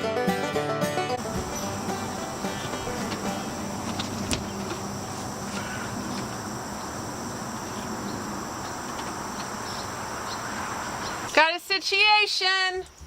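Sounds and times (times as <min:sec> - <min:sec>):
constant background hiss: 0:01.2 - 0:13.0
insects trilling: 0:01.2 - 0:13.0.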